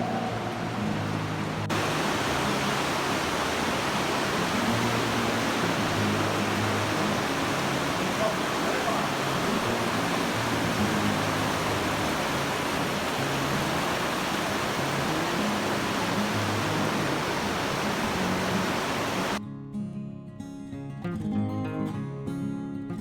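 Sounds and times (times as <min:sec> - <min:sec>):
rushing water: 0:00.0 - 0:19.4
acoustic guitar music: 0:00.0 - 0:23.0.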